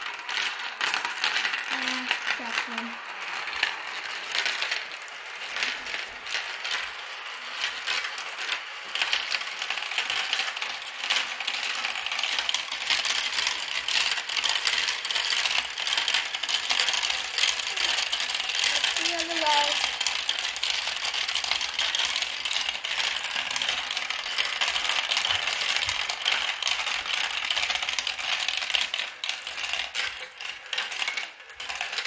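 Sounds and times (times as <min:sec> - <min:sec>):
marbles clattering through plastic run: 0:00.0 - 0:32.0.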